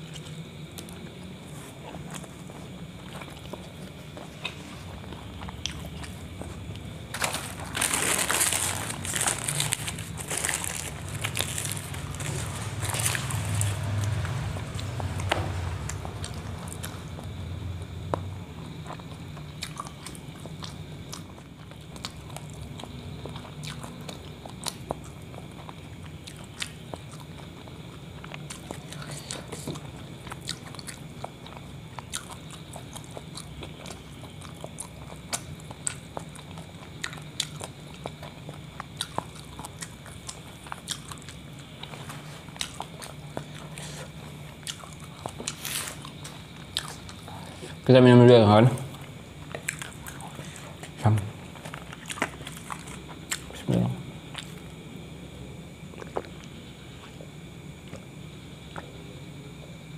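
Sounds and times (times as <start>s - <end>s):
chewing with wet mouth clicks: 0.0s - 7.0s, 13.2s - 47.8s, 48.9s - 51.0s, 51.6s - 54.8s, 55.8s - 58.1s
steady low hum: 0.0s - 59.9s.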